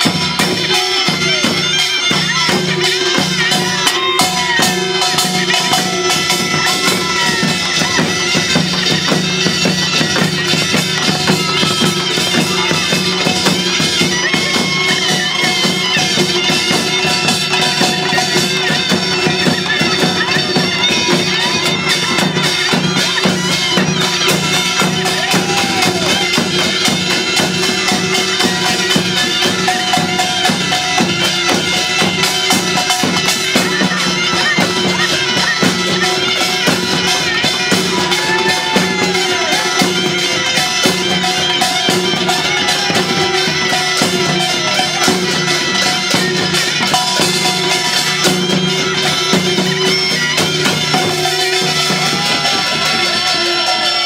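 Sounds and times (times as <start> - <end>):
barrel drums beating: 0.0 - 54.0
shawm playing reedy melody: 0.0 - 54.0.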